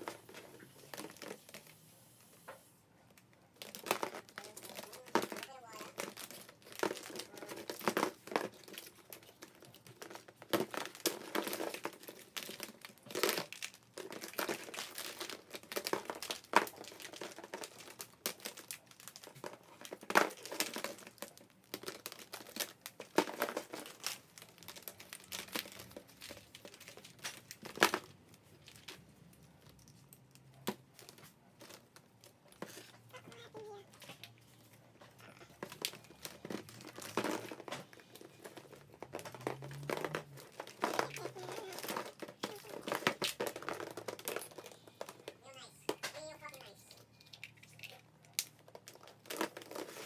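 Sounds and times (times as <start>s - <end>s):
plastic eggs clicking and clattering: 0.0s - 1.8s, 3.1s - 50.0s.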